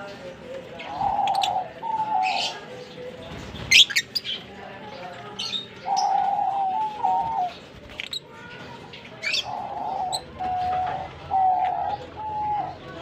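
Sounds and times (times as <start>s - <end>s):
lovebirds chirping: 0.8s - 13.0s.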